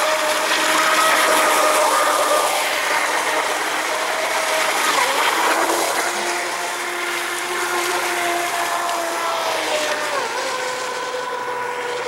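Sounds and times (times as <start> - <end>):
hull and spray hissing on water: 0.0 - 12.0
toy boat motor whine: 0.0 - 12.0.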